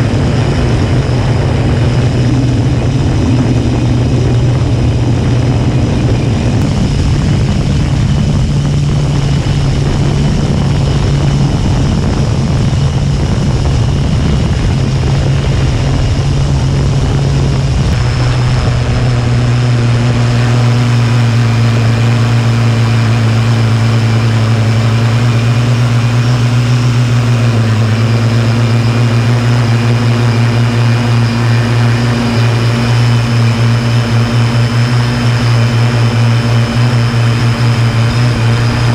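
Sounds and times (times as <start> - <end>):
drone motors whining: 0.0 - 38.9
low rumble: 0.0 - 38.9.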